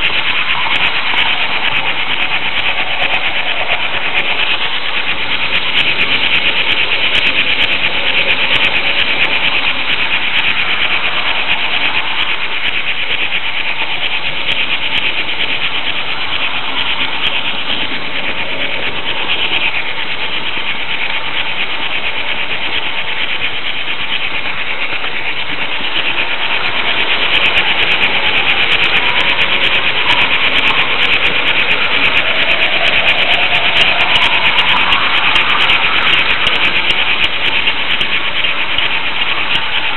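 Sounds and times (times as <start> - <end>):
model train whirring and rattling: 0.0 - 39.9.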